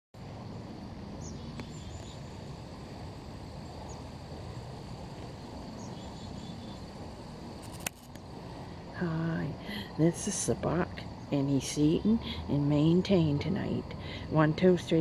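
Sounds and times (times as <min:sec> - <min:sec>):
insects trilling: 0:00.2 - 0:15.0
low background noise: 0:00.2 - 0:15.0.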